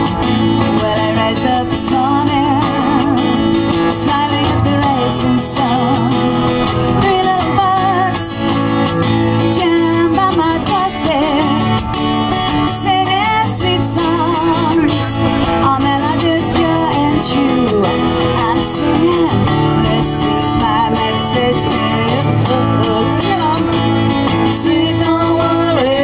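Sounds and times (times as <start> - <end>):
strummed acoustic guitar: 0.0 - 26.0
woman singing: 0.0 - 26.0.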